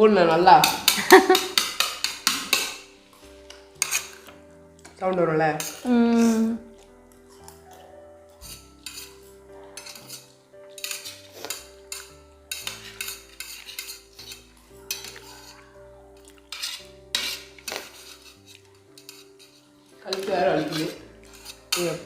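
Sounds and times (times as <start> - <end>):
soft background music: 0.0 - 22.0.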